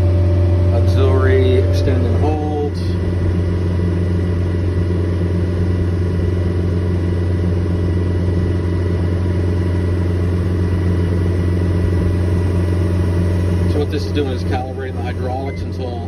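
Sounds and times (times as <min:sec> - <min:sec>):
diesel engine at full throttle: 0:00.0 - 0:16.0.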